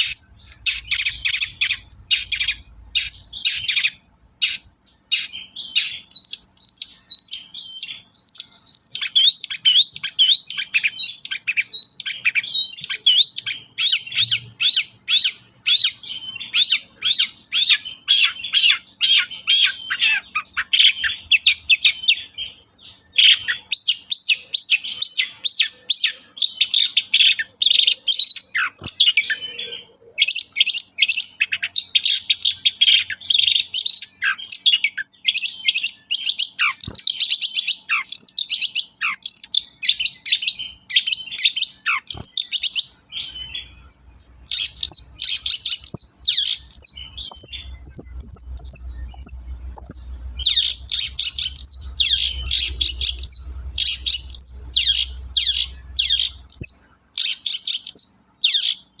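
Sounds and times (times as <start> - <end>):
bird singing chattering notes: 0.0 - 59.0.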